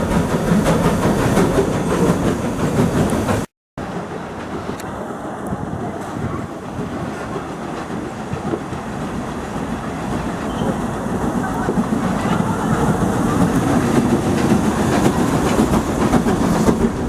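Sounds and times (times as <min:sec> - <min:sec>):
train rumbling: 0:00.0 - 0:17.0
wheels clattering over rail joints: 0:00.0 - 0:17.0.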